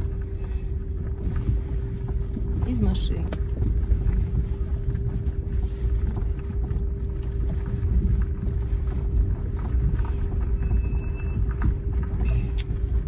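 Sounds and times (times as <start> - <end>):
constant hum: 0.0 - 13.0
road rumble in car cabin: 0.0 - 13.0.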